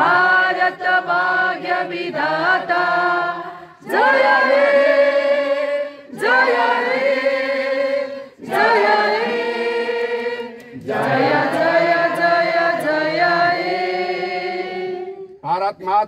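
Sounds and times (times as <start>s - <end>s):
group of voices singing: 0.0s - 15.4s.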